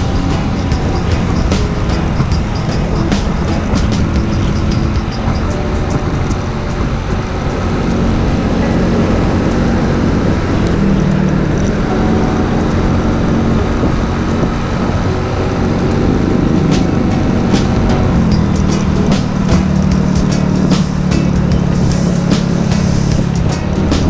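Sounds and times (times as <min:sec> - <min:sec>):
scooter engine running: 0:00.0 - 0:24.0
wind and road noise: 0:00.0 - 0:24.0.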